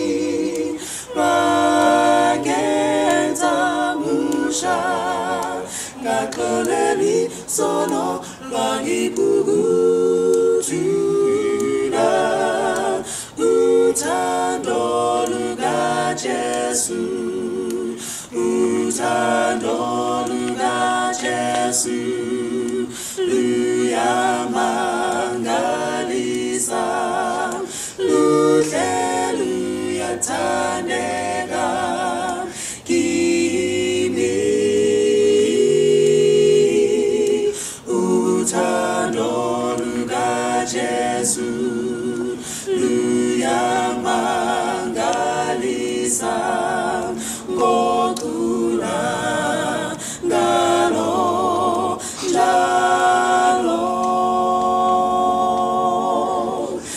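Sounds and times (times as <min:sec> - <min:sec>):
group singing hymn a cappella: 0:00.0 - 0:56.9.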